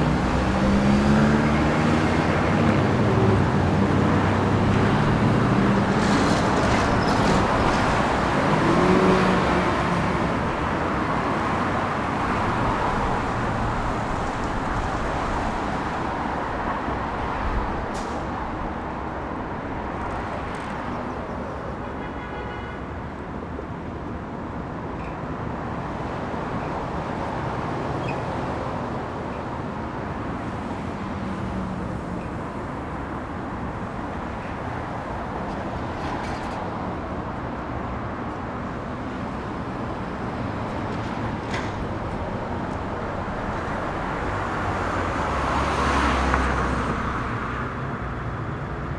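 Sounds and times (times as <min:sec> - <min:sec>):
city street traffic: 0:00.0 - 0:48.9.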